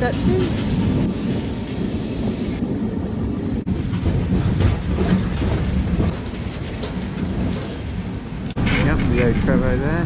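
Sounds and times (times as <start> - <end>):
tram rumbling on rails: 0.0 - 10.0.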